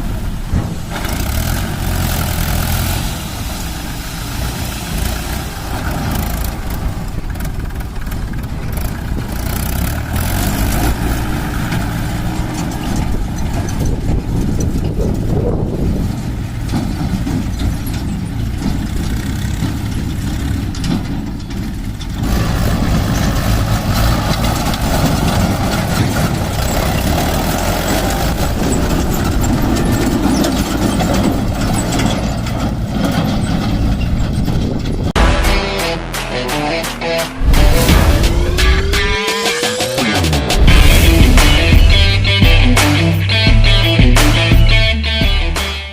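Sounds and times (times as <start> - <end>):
diesel engines running: 0.0 - 45.9.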